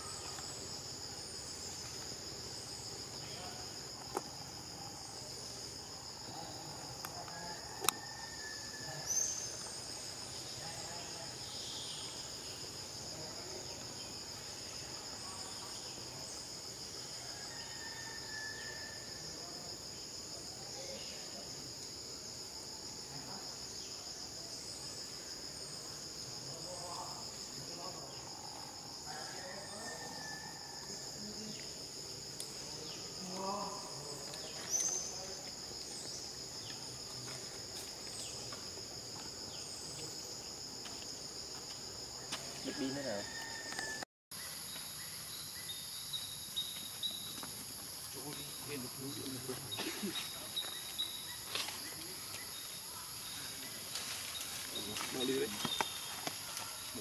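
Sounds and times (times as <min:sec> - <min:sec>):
insect chorus droning: 0:00.0 - 0:57.0.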